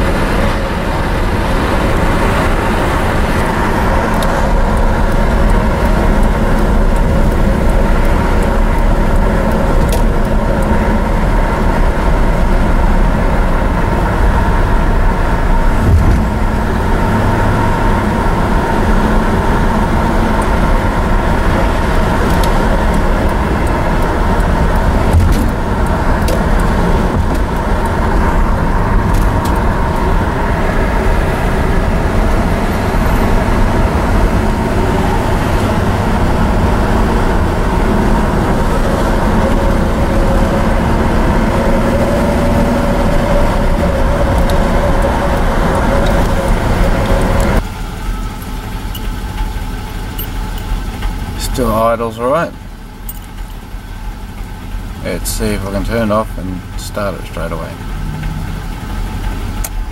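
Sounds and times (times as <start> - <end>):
car engine cruising: 0.0 - 59.9
road and tyre noise: 0.0 - 59.9.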